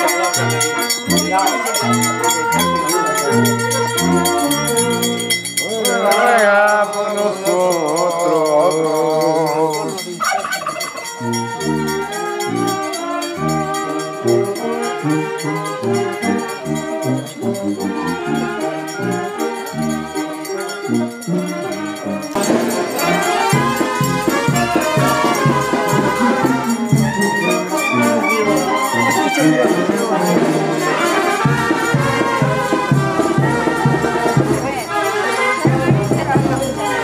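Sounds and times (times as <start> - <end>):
sustained horn notes: 0.0 - 7.0, 11.2 - 37.0
brass band playing: 0.0 - 7.7, 10.2 - 37.0
trilling melody line: 0.0 - 37.0.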